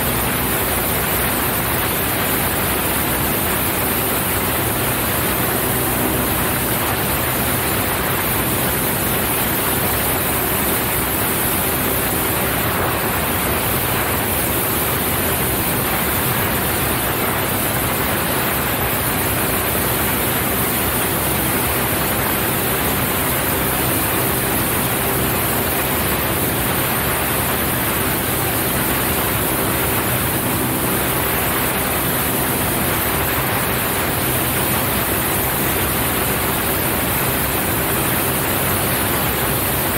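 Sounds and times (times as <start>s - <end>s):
airplane engine and propeller: 0.0s - 39.9s
rush of airflow: 0.0s - 39.9s.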